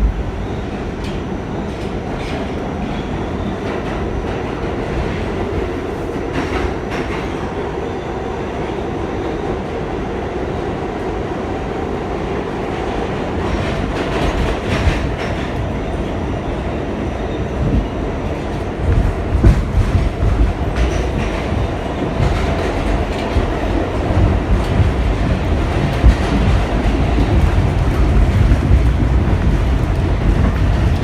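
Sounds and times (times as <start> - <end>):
subway train wheels rumbling: 0.0 - 31.0.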